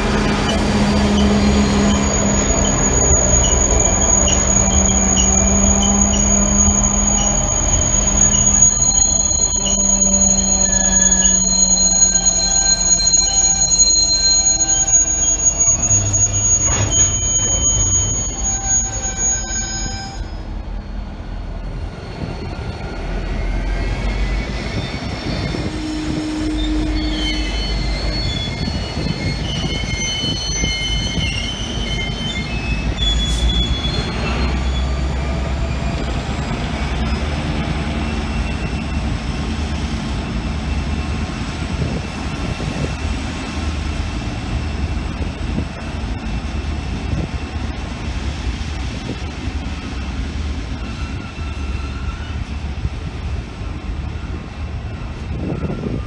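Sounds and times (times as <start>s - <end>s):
train wagons rumbling on rails: 0.0s - 56.0s
wheel squeal: 0.4s - 20.5s, 21.8s - 43.2s, 49.7s - 52.6s, 53.6s - 56.0s.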